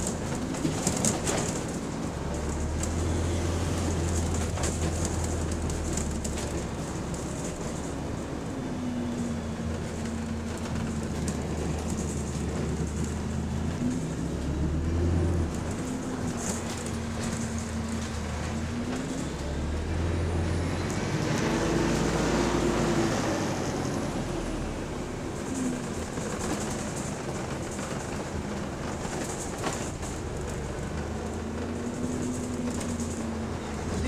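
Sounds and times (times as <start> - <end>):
bus engine drone with whine: 0.0 - 34.0.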